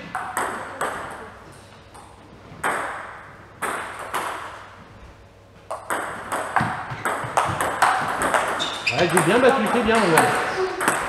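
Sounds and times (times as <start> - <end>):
table tennis ball hits: 0.0 - 4.8, 5.6 - 11.0.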